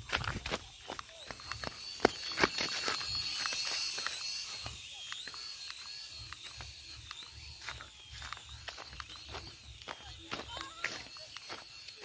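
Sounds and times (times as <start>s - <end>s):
small electric motor whine: 0.0s - 12.0s.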